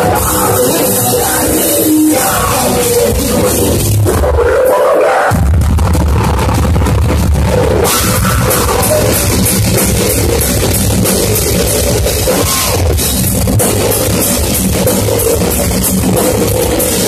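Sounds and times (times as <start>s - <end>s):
fast drumming with cymbal hits: 0.0s - 4.3s, 5.3s - 17.0s
distorted electric guitars: 0.0s - 17.0s
heavy metal band playing live: 0.0s - 17.0s.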